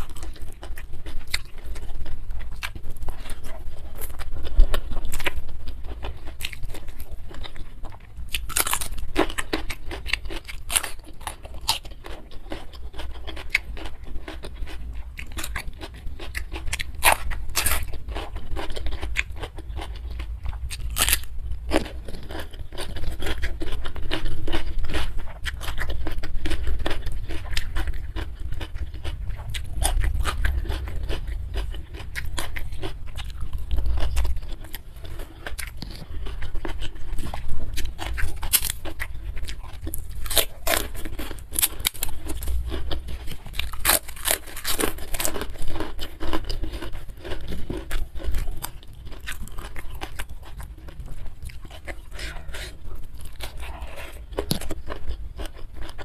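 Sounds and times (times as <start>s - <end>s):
chewing food: 0.0s - 56.0s
crunchy bites: 8.3s - 56.0s.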